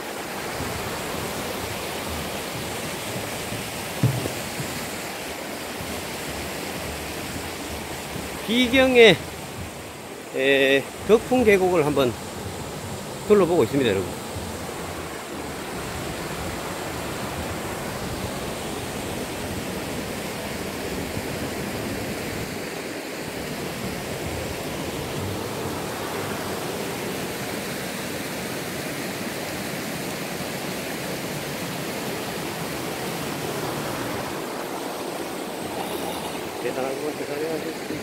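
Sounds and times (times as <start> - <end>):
stream rushing over rocks: 0.0 - 38.0.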